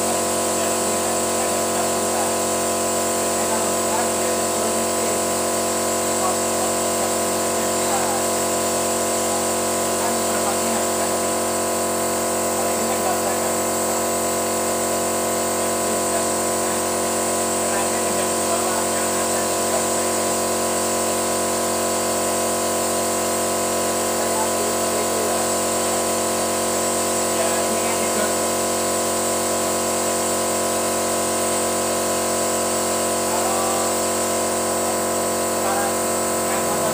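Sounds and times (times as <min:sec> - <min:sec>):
machine humming: 0:00.0 - 0:36.9.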